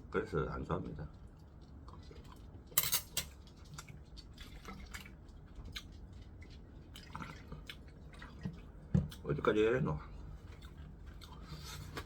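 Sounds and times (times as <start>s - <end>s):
person chewing food: 1.1s - 9.3s, 10.1s - 12.0s.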